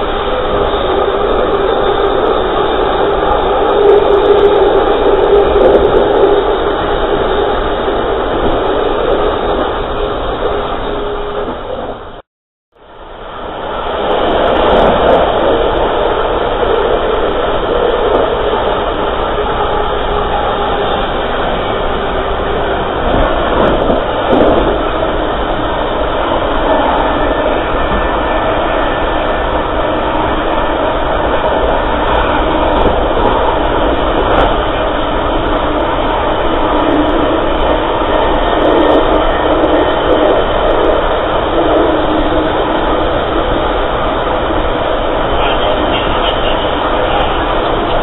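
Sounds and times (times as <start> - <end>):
train running on rails: 0.0 - 48.0.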